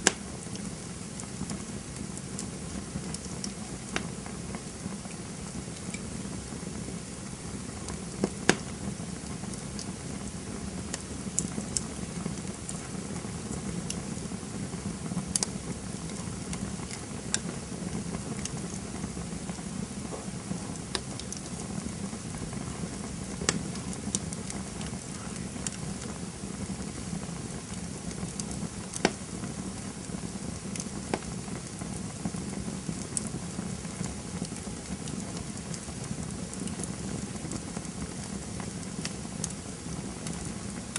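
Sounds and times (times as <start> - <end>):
campfire crackling: 0.0 - 40.9
fire pops and snaps: 0.0 - 40.9.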